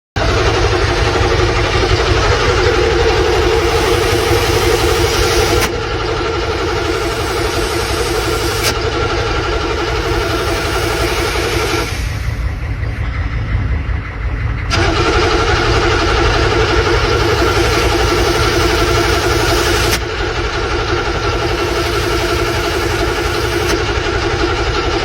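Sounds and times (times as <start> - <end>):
vehicle engine running: 0.1 - 25.0.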